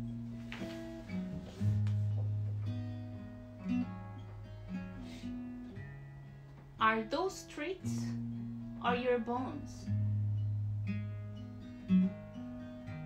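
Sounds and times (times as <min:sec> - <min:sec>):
guitar picking notes: 0:00.0 - 0:13.0.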